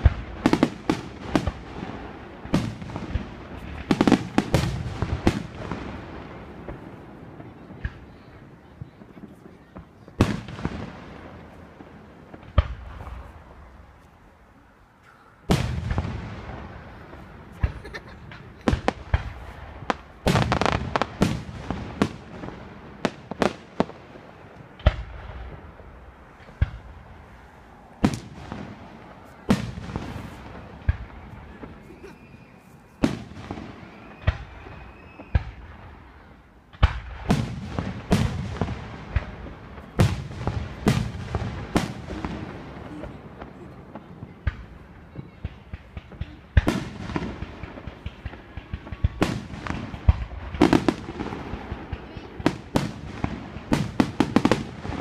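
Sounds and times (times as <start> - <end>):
fireworks bursting with echoes: 0.0 - 55.0.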